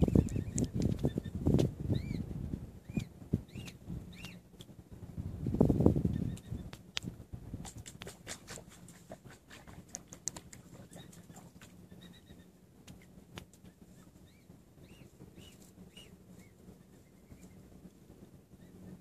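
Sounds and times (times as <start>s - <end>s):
cygnets peeping: 0.0s - 4.8s, 5.7s - 7.0s, 7.6s - 19.0s.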